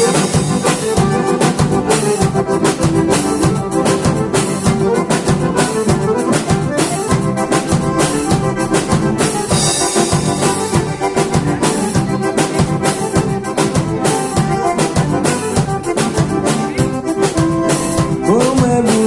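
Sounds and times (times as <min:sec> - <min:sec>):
accordion: 0:00.0 - 0:19.0
drum kit dance beat: 0:00.0 - 0:19.0.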